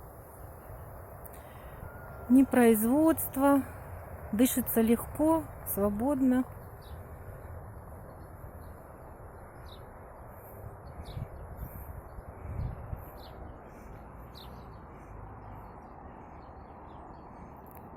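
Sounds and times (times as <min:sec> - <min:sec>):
small birds chirping: 0:00.6 - 0:17.9.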